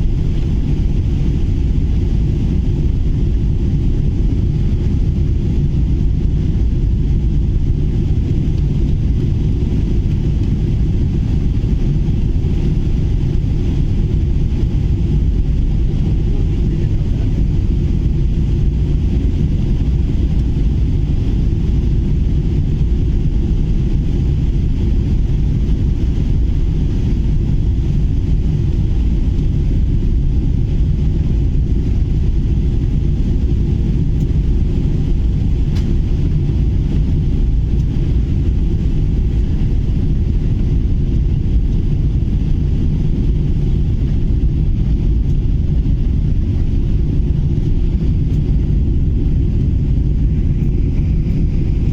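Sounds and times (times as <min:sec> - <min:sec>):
jet airliner cabin rumble: 0:00.0 - 0:51.9.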